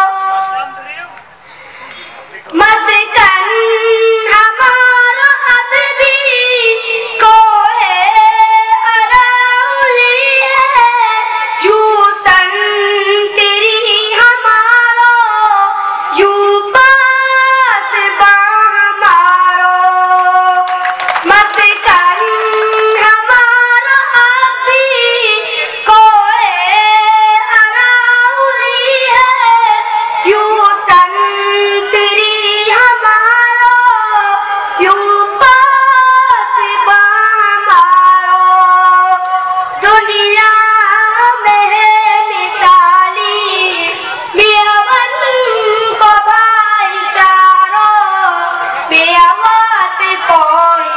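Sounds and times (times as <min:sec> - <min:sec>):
boy singing into a microphone: 0:00.0 - 0:00.8, 0:02.5 - 0:50.9.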